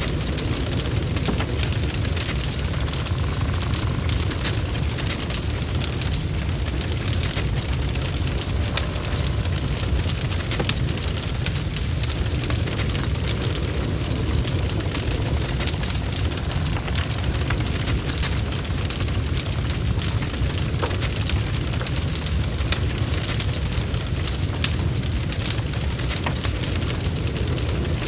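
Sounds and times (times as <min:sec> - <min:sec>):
fire burning with low rumble: 0:00.0 - 0:28.0
fire popping and snapping: 0:00.0 - 0:28.0.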